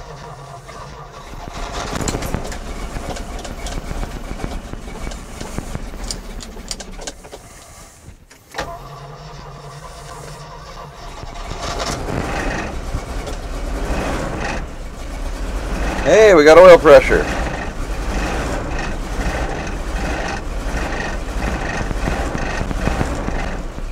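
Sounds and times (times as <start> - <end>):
engine cranking and catching: 0.0 - 23.9.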